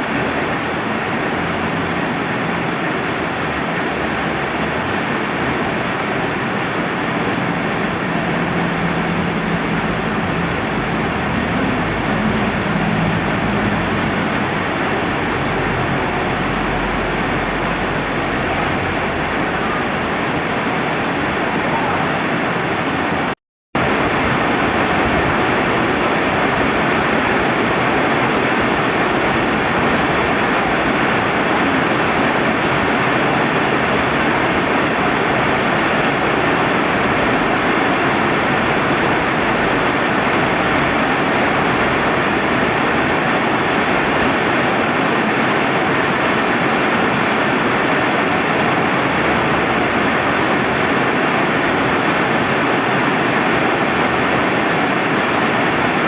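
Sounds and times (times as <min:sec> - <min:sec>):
rushing river water: 0:00.0 - 0:56.0
steady rain: 0:00.0 - 0:56.0.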